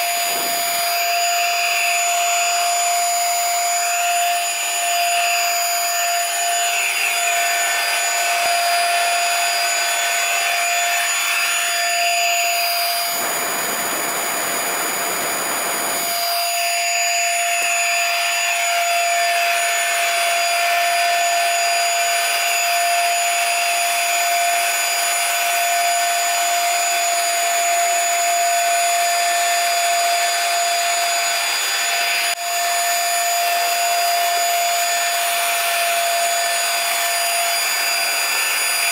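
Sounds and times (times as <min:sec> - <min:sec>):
stick vacuum running: 0:00.0 - 0:38.9.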